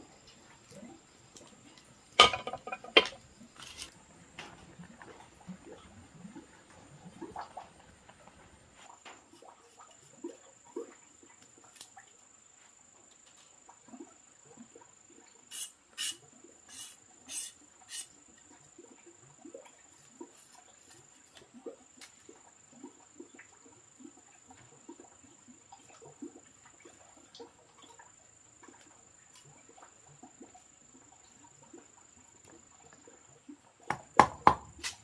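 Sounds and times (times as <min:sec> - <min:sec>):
insects trilling: 0:00.0 - 0:05.5, 0:08.8 - 0:33.5.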